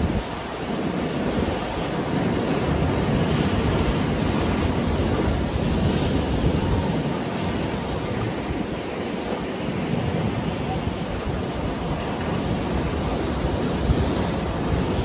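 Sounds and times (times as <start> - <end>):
surf breaking against rocks: 0.0 - 15.0.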